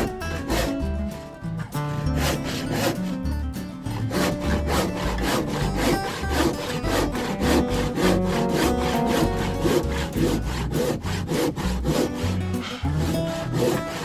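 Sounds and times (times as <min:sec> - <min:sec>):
background music with bass line: 0:00.0 - 0:14.0.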